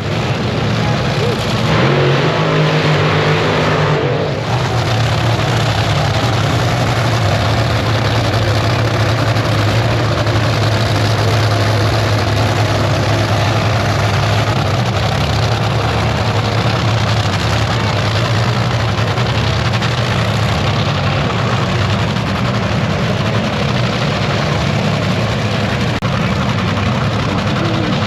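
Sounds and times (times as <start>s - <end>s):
heavy engine idling: 0.0s - 28.0s.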